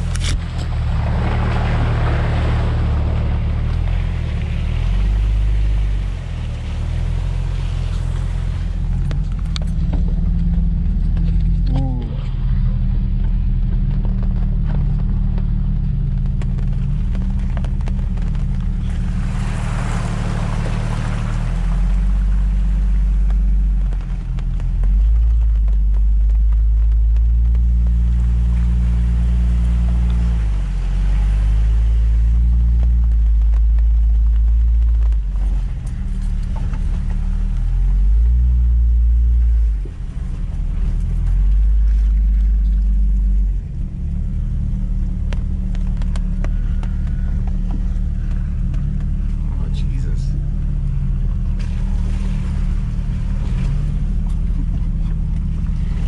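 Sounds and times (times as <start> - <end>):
engine revving under load: 0.0 - 56.0.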